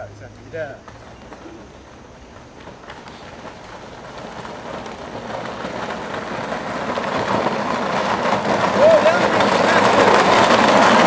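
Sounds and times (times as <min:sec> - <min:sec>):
go-kart wheels rolling on rough path: 0:00.0 - 0:11.0.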